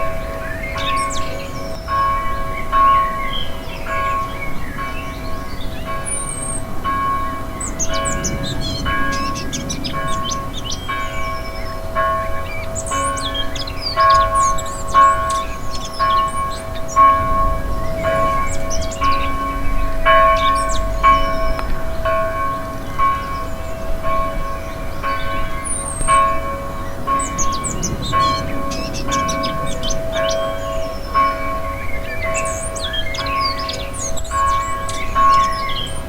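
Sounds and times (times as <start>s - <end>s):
birds twittering: 0.0s - 36.0s
church bell tolling: 0.0s - 36.0s.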